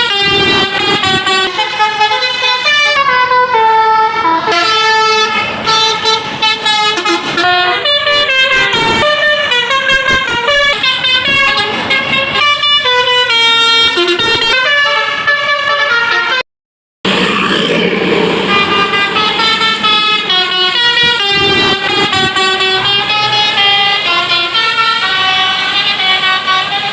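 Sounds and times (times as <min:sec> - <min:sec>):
multi-tone bus air horn melody: 0:00.0 - 0:16.4, 0:18.3 - 0:26.9.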